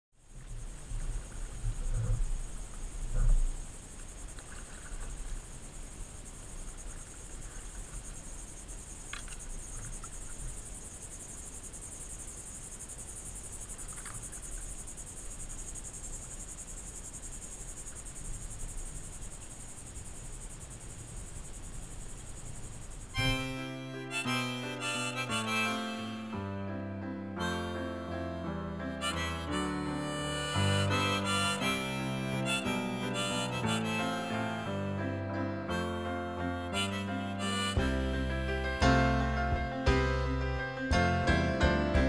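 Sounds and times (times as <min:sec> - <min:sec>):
insects chorus: 0:00.2 - 0:41.7.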